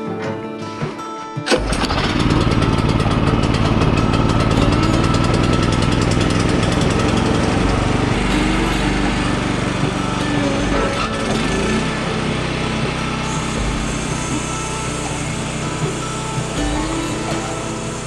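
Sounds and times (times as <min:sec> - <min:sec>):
small gasoline engine running: 0:01.5 - 0:18.0.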